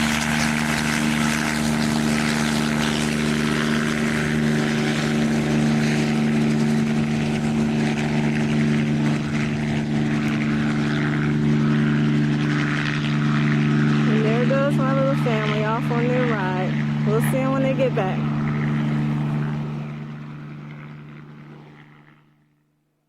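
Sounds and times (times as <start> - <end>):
propeller aircraft engine droning: 0.0 - 23.0.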